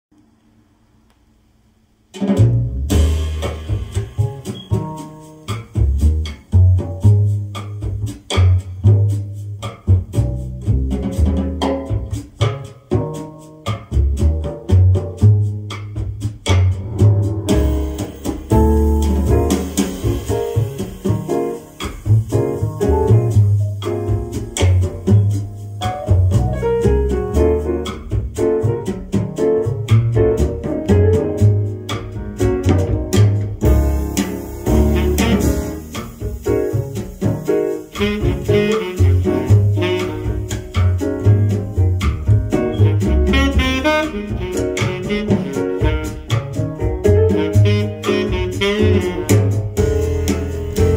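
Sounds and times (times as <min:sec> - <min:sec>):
drums and cymbals: 0:01.8 - 0:50.9
jazz record playing: 0:02.0 - 0:50.9
walking bass line: 0:02.4 - 0:50.9.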